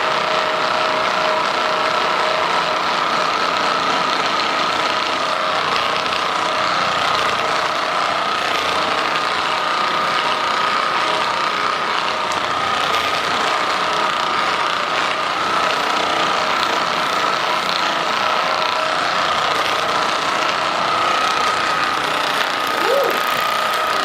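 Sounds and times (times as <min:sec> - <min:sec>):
massage gun motor whine: 0:00.0 - 0:24.0.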